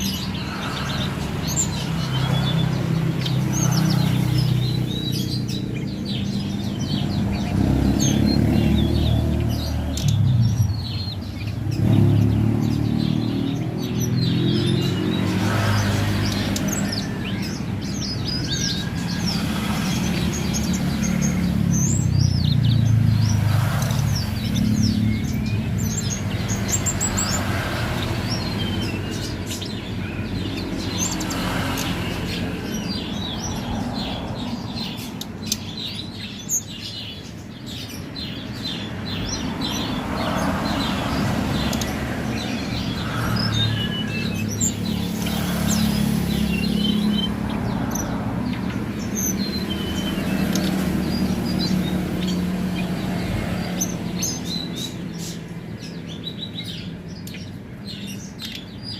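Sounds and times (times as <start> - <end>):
songbird chirping rapidly: 0.0 - 58.9.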